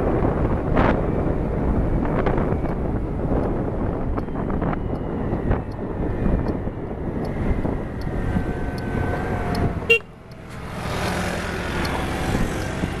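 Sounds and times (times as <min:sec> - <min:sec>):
road traffic engines: 0:00.0 - 0:13.0.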